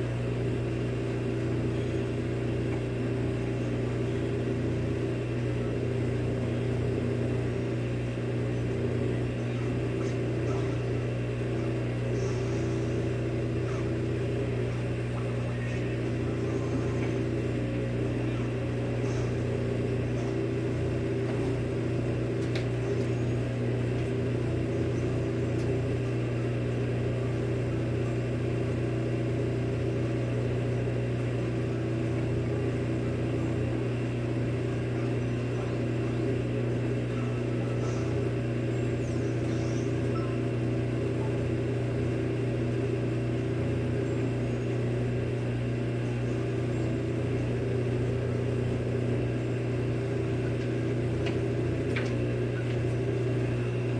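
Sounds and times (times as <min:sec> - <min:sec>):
washing machine spinning: 0:00.0 - 0:53.9.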